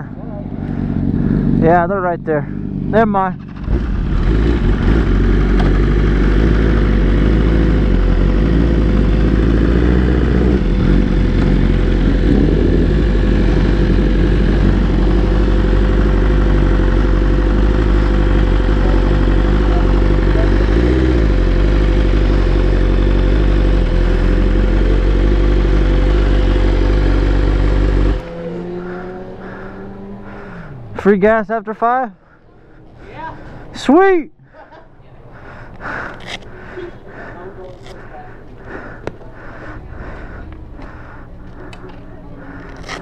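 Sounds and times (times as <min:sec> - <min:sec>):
motorcycle engine running: 0:00.0 - 0:31.1, 0:35.3 - 0:43.0.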